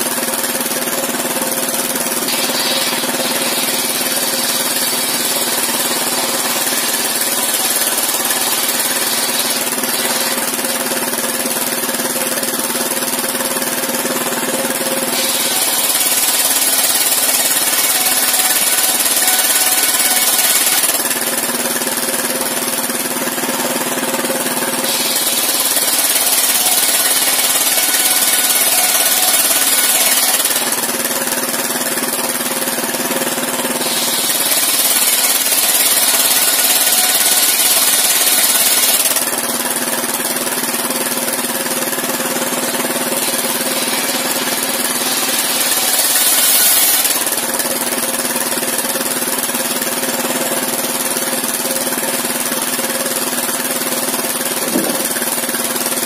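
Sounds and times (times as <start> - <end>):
circular saw cutting boards: 0.0 - 56.0
engine running: 0.0 - 56.0
saw spinning free: 0.0 - 56.0.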